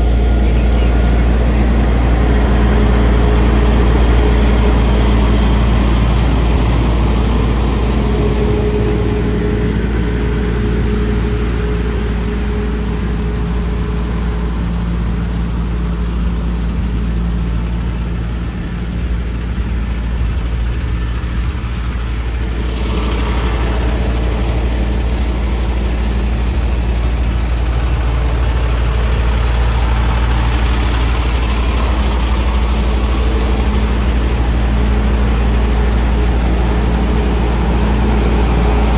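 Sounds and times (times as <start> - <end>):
heavy vehicle engine idling: 0.0 - 38.9.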